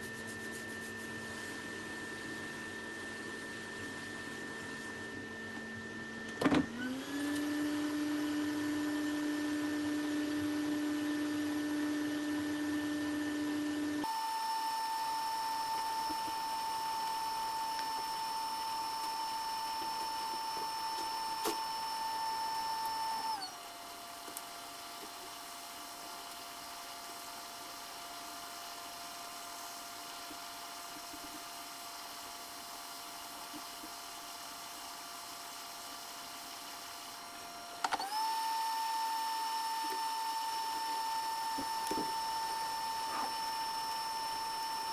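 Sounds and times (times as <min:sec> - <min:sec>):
hot air blower whine: 0:00.0 - 0:44.9.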